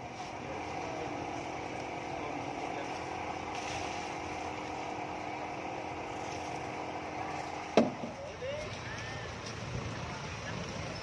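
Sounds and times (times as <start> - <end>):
engine humming: 0.0 - 11.0
street traffic: 0.0 - 11.0.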